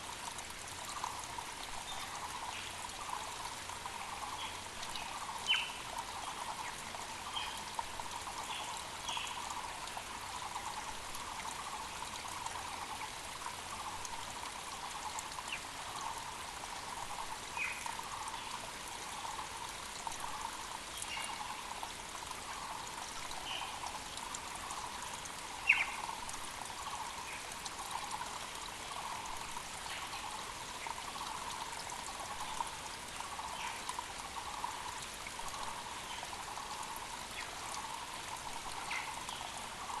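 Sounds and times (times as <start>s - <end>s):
creek trickling and babbling: 0.0s - 40.0s.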